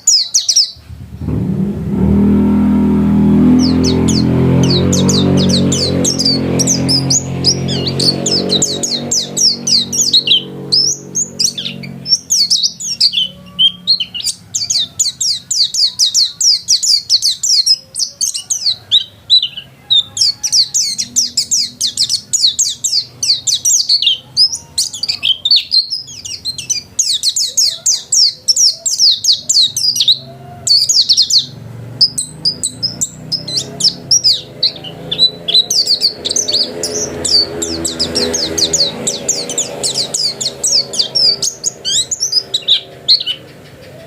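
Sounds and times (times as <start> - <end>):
bird chirping and trilling: 0.0 - 44.0
vehicle engine hum: 0.7 - 44.0.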